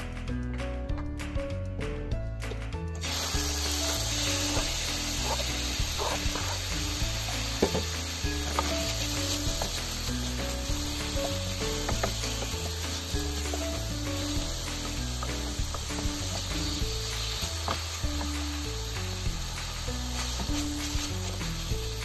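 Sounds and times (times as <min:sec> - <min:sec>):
background music: 0:00.0 - 0:22.0
food sizzling in a frying pan: 0:03.0 - 0:22.0.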